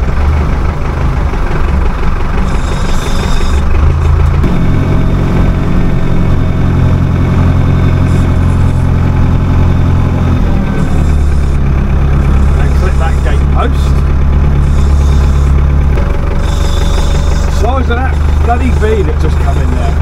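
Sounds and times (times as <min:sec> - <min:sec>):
tractor engine at low revs: 0:00.0 - 0:20.0.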